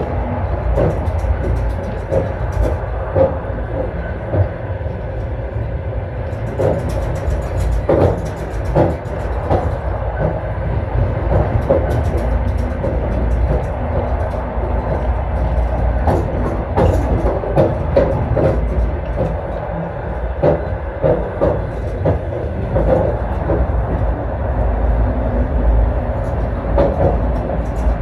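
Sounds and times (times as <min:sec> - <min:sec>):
train wheels clacking: 0:00.0 - 0:28.0
train wheels rumbling on rails: 0:00.0 - 0:28.0.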